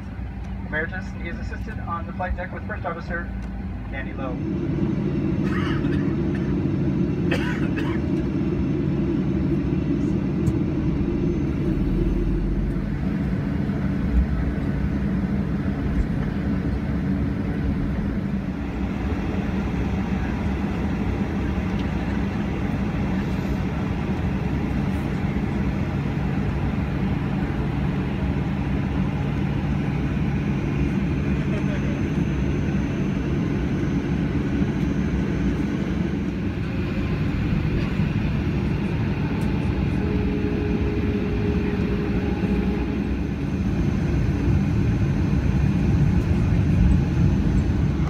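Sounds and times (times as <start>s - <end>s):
aircraft cabin hum: 0.0s - 48.0s
steady low tones: 0.0s - 48.0s.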